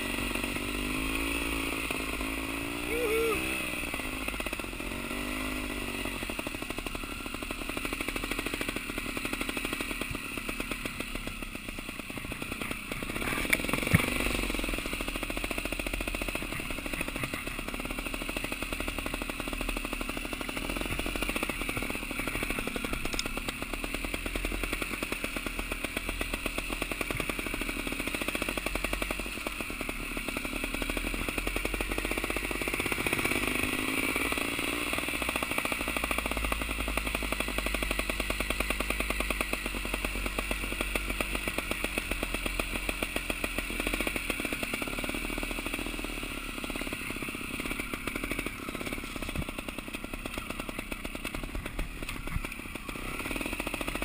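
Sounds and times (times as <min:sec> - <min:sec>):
motorcycle engine running: 0:00.0 - 0:54.0
motorcycle rattling: 0:00.0 - 0:54.0.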